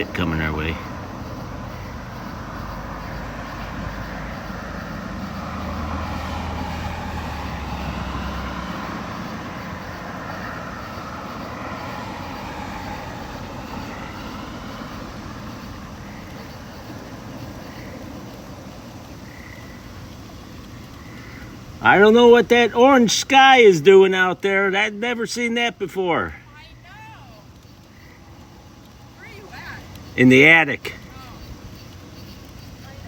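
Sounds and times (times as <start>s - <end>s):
distant warning sirens wailing: 0.0s - 33.0s.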